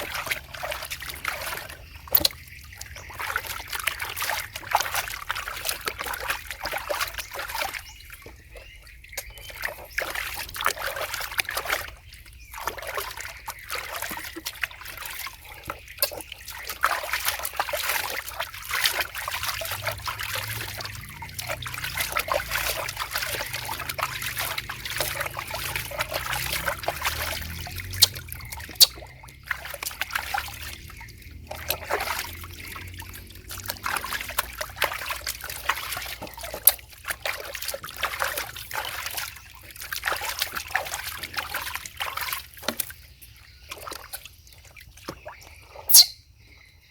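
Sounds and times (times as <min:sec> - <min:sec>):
water trickling and splashing: 0:00.0 - 0:46.9.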